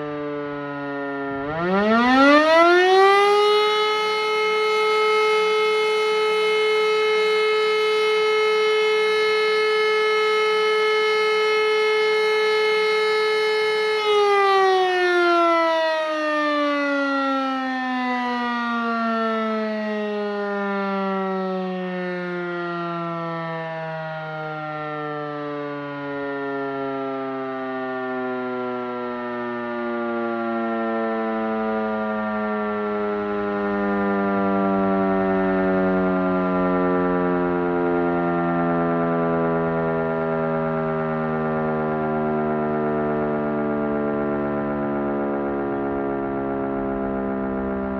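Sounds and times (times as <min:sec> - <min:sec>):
siren winding down: 0:00.0 - 0:47.9.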